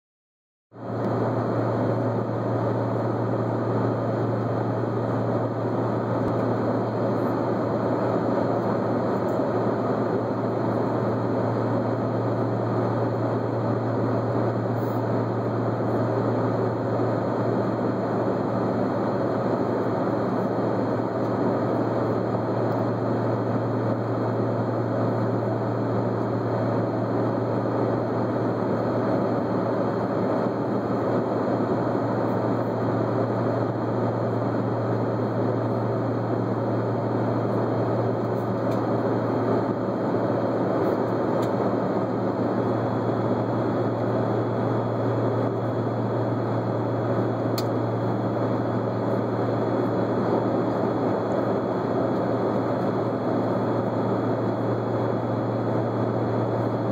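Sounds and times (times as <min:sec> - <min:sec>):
constant low hum: 0:00.8 - 0:56.9
engine and airflow rush: 0:00.8 - 0:56.9.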